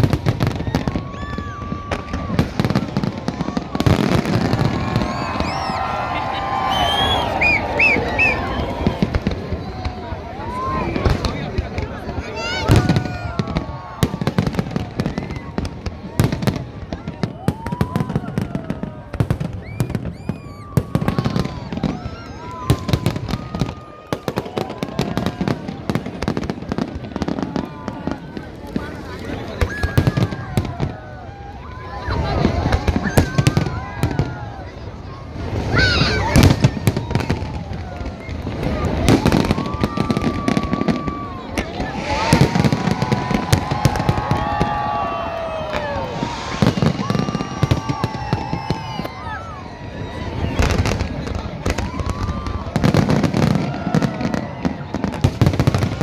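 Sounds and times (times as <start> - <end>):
crowd calling out: 0.0 - 56.0
fireworks bangs and crackles: 0.0 - 56.0.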